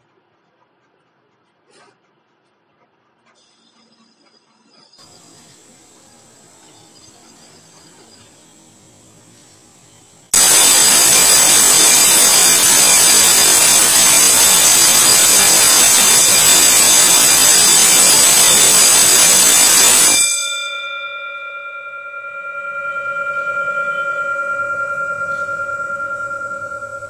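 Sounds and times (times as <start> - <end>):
electric bell ringing: 3.6 - 27.0
bell dome humming: 5.0 - 27.0.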